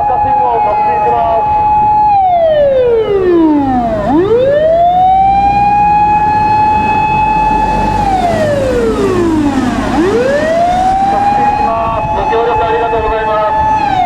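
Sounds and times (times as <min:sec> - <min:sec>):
low truck engine rumble: 0:00.0 - 0:14.0
mechanical motor siren wailing: 0:00.0 - 0:14.0.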